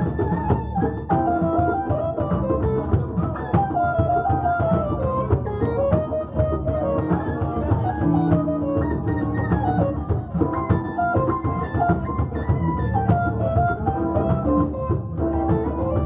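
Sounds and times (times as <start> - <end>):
live band playing: 0.0 - 16.0.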